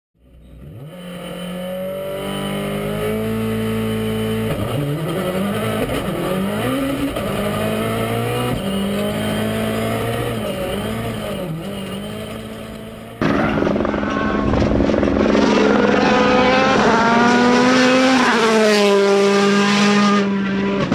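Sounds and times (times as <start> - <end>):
loud rough engine: 0.2 - 20.9
rally car engine revving: 0.2 - 20.9.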